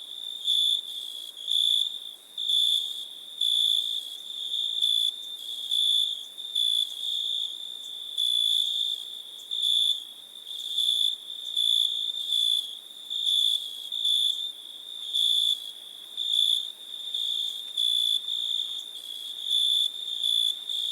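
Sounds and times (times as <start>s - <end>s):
crickets chirping: 0.1s - 20.9s.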